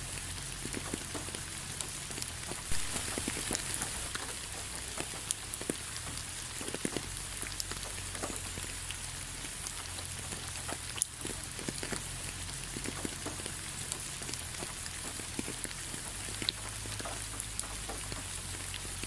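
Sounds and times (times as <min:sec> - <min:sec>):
raindrops ticking: 0:00.0 - 0:19.0
steady rain hiss: 0:00.0 - 0:19.0.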